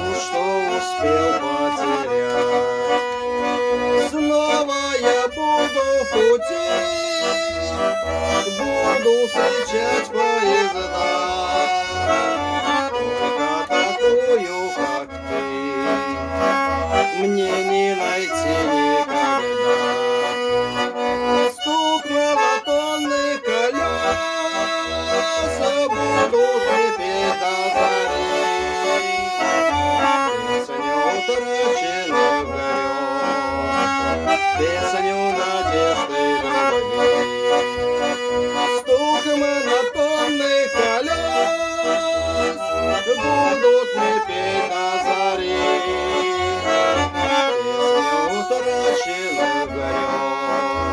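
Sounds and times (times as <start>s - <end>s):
accordion melody: 0.0s - 50.9s.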